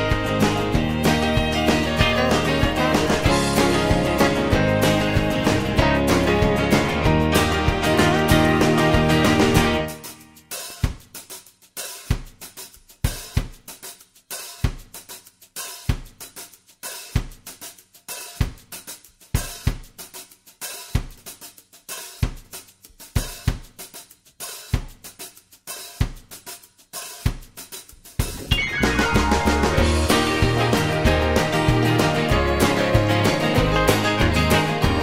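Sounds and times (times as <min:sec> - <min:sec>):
drum kit playing steady beat: 0:00.0 - 0:35.0.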